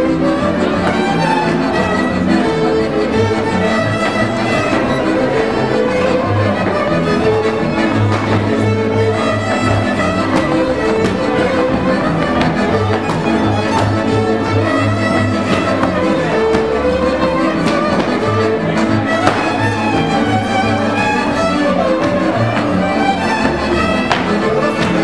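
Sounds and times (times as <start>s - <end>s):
bowed double bass: 0.0s - 25.0s
fiddle accompaniment chords: 0.0s - 25.0s
fiddles playing dance melody: 0.0s - 25.0s.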